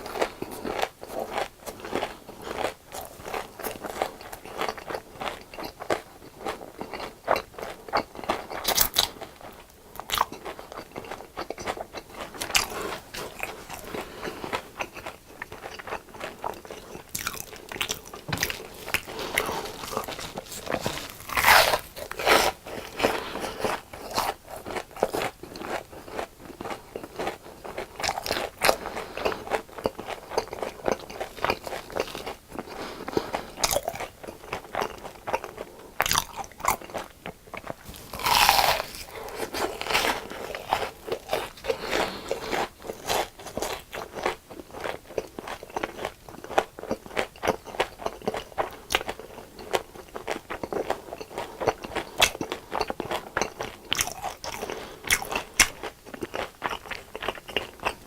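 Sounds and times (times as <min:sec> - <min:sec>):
crunching fried food: 0:00.0 - 0:58.0.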